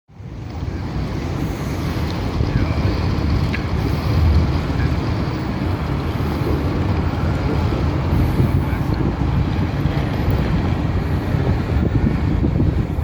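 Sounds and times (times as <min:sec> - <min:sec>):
tram rumbling: 0:00.3 - 0:13.0.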